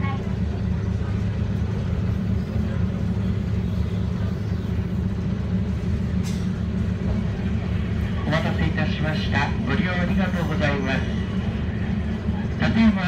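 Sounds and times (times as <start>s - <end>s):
train rumbling inside passenger car: 0.0s - 13.0s.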